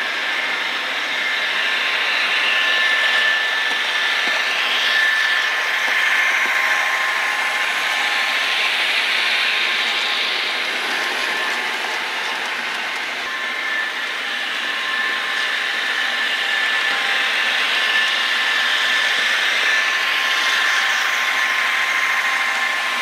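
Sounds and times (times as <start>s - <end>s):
model train running on rails: 0.0s - 23.0s.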